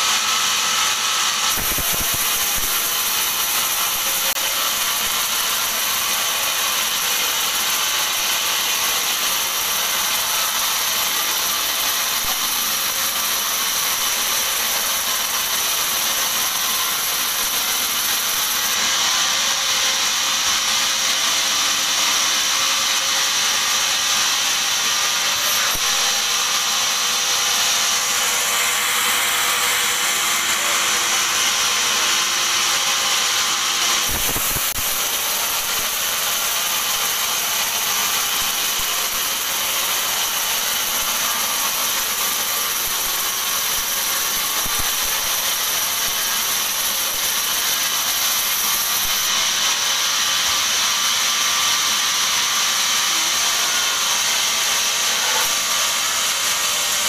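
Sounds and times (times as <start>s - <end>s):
running machinery: 0.0s - 57.0s
saw blade hissing through wood: 0.0s - 57.0s.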